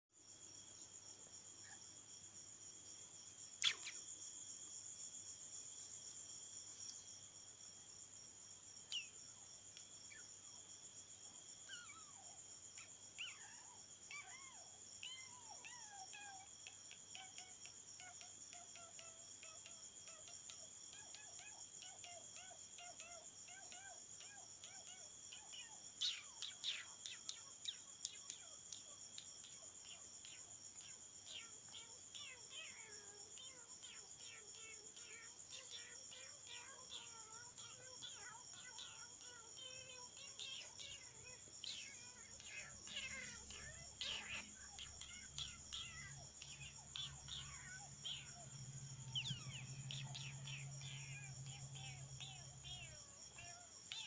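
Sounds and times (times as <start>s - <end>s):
insect chorus: 0.1s - 54.0s.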